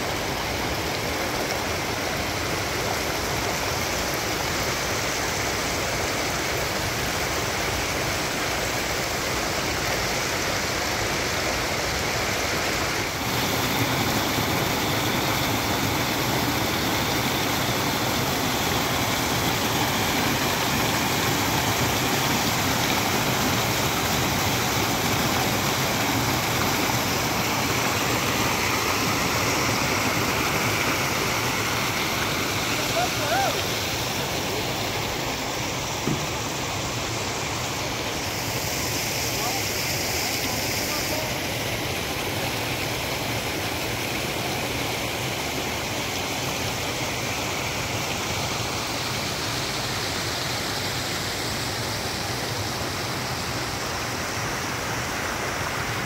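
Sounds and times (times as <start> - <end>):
rushing water of a spring: 0.0 - 56.0.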